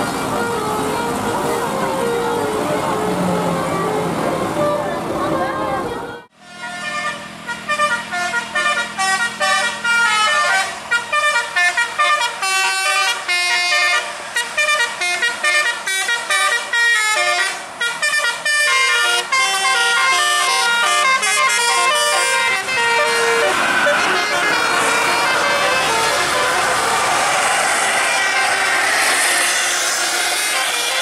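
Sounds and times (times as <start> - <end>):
vehicle horns playing melodies: 0.0 - 31.0.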